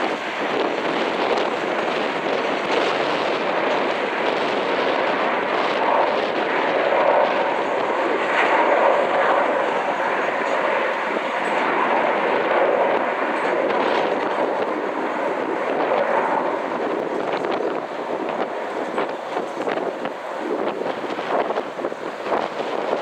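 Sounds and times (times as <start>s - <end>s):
jet airliner taking off: 0.0s - 23.0s.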